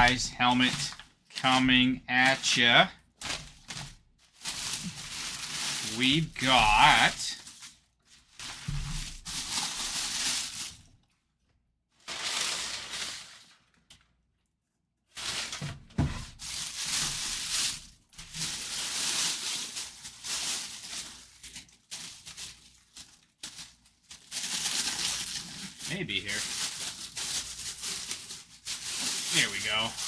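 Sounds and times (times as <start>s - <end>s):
plastic bag crinkling: 0.0s - 2.6s, 3.2s - 11.1s, 12.0s - 13.8s, 15.1s - 30.0s.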